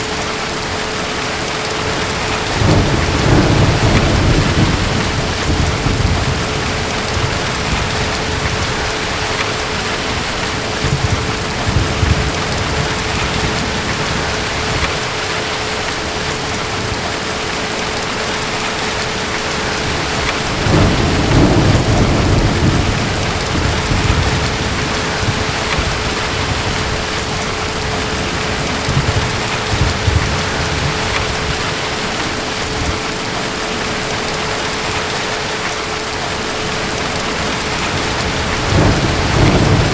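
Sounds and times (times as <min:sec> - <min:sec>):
heavy rain: 0:00.0 - 0:39.9
distant thunder rumbling: 0:01.7 - 0:34.2, 0:36.6 - 0:39.9.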